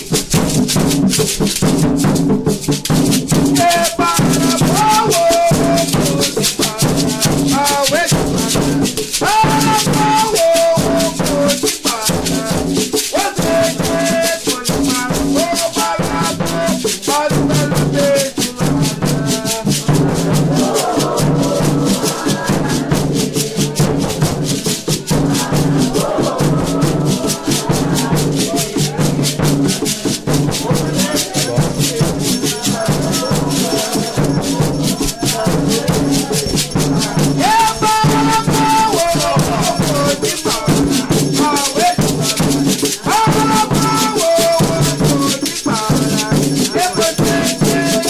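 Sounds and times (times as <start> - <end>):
fast hand drum beat: 0.0 - 48.0
person singing: 3.4 - 48.0.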